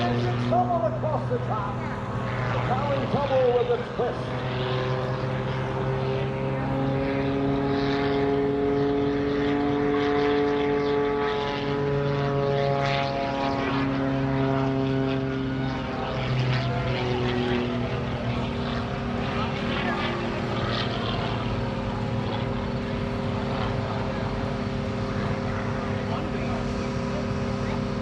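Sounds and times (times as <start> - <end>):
propeller plane droning overhead: 0.0 - 28.0.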